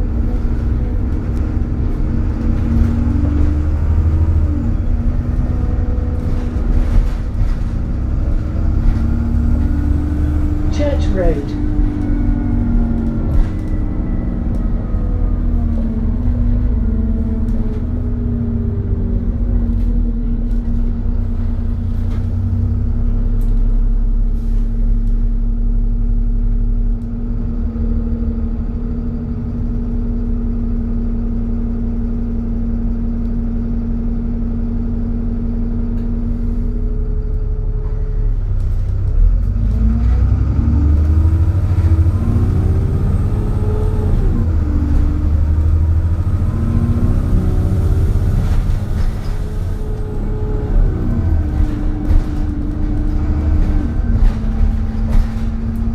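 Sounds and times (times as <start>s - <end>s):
bus engine droning: 0.0s - 55.9s.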